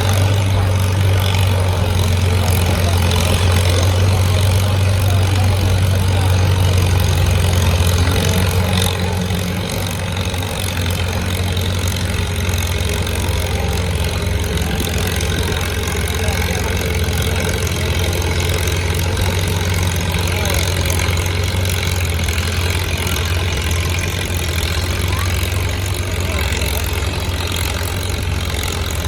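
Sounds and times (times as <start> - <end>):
tractor engine loud low drone: 0.0 - 29.0.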